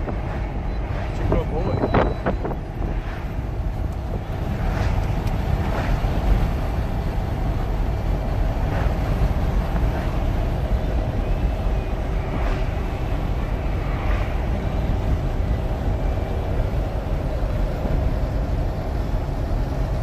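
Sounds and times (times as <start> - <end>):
engine and tyre rumble: 0.0 - 20.0
wind rushing past window: 0.0 - 20.0.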